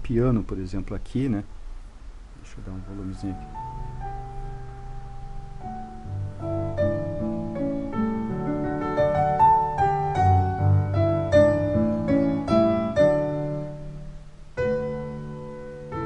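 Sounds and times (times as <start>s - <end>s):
solo piano through loudspeakers: 0.0s - 16.0s.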